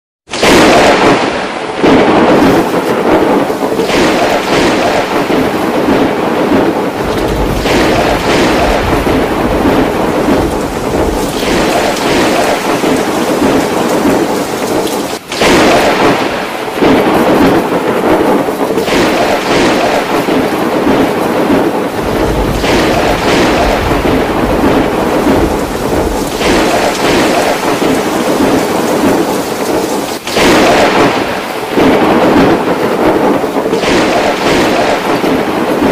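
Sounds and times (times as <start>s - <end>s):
heavy rain falling: 0.3s - 35.9s
thunder rolling: 0.4s - 35.9s.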